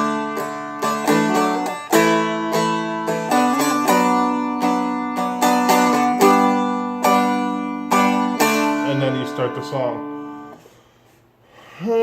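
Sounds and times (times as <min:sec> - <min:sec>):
dulcimer strummed chords: 0:00.0 - 0:10.6.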